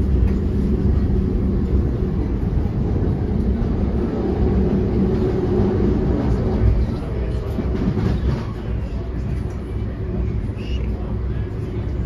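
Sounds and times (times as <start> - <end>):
passenger coach running on track: 0.0 - 12.0.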